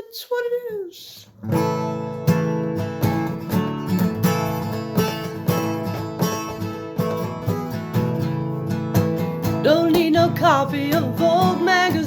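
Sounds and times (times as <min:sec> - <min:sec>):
acoustic guitar strumming: 0:01.4 - 0:12.0.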